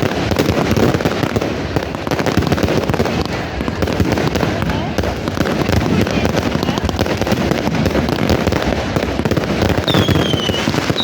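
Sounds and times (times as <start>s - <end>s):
fireworks crackling rapidly: 0.0s - 11.0s.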